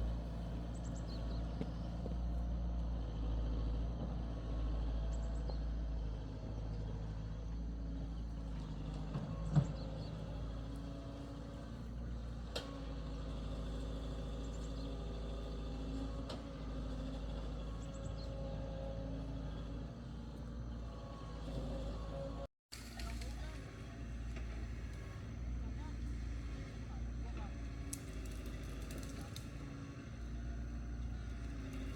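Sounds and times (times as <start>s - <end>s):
heavy engine running slowly: 0.0s - 31.9s.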